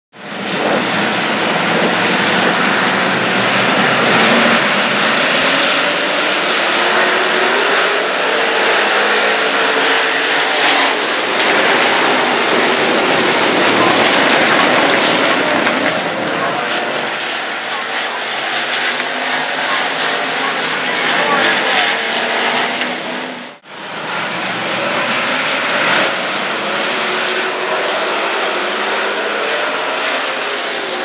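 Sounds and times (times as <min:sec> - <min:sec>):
race car engines roaring: 0:00.1 - 0:31.0.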